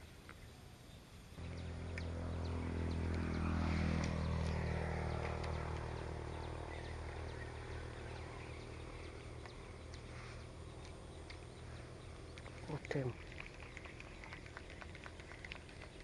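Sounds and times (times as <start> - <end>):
low engine hum: 1.4 - 16.0.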